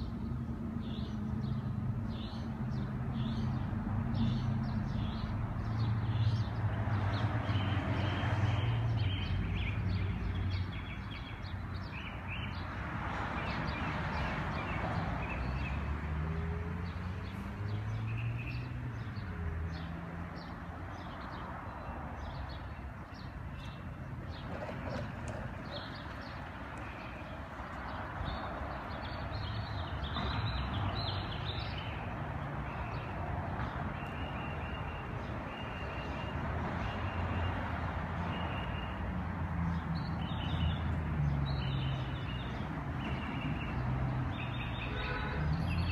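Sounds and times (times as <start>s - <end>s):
cars passing: 0.0s - 45.9s
vehicle engines humming: 0.0s - 45.9s
birds chirping: 0.8s - 39.0s.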